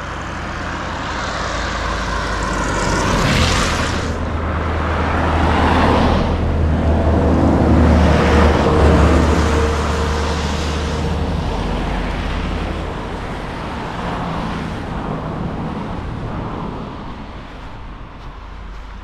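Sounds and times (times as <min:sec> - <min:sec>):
deep engine rumble: 0:00.0 - 0:19.0
vehicles passing close by: 0:00.0 - 0:19.0.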